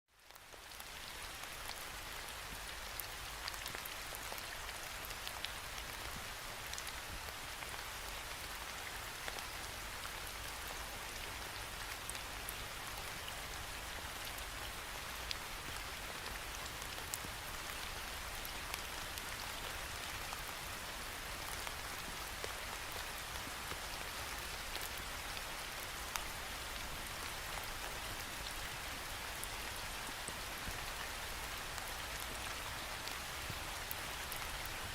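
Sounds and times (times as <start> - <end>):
rain on a window: 0.1 - 34.9.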